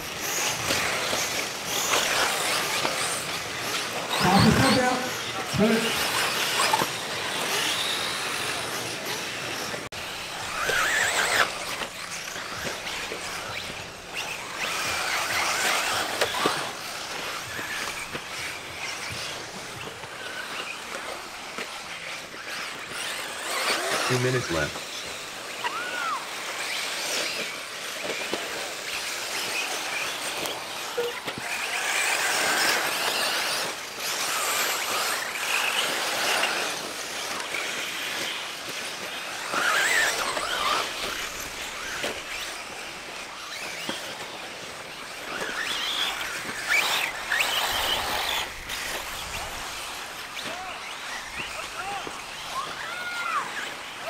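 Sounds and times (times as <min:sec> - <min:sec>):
electric motor whine: 0:00.0 - 0:54.0
tires on dirt: 0:00.0 - 0:54.0.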